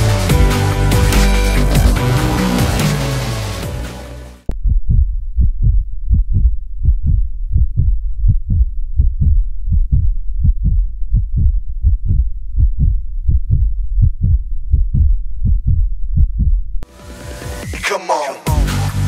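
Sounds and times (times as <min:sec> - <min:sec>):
pulsing bass beat: 0:00.0 - 0:17.6.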